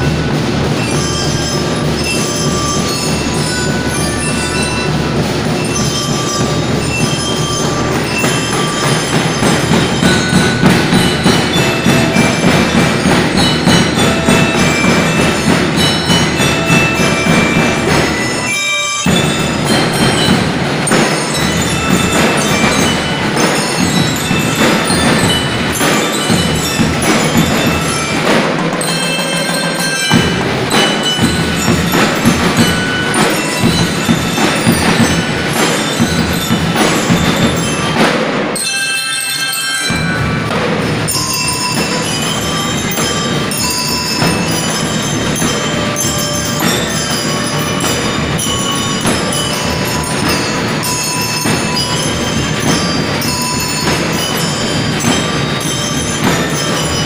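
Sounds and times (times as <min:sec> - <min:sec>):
snare and bass drums: 0:00.0 - 0:38.6, 0:39.9 - 0:57.0
bell lyres playing melody: 0:00.0 - 0:57.0.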